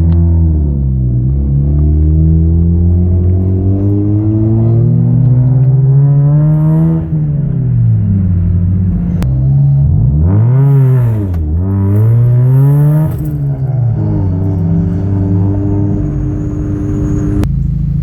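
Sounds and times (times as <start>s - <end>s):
rotary engine revving and idling: 0.0s - 18.0s.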